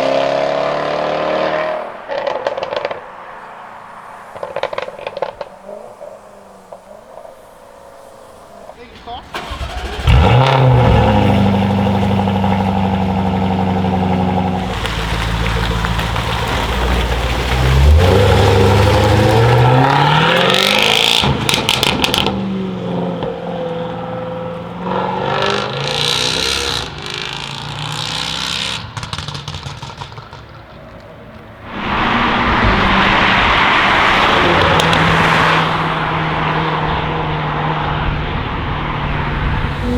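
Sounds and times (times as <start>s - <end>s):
car engine revving and accelerating: 0.0s - 3.1s, 9.3s - 30.3s, 31.6s - 39.9s
exhaust crackles: 0.7s - 39.9s.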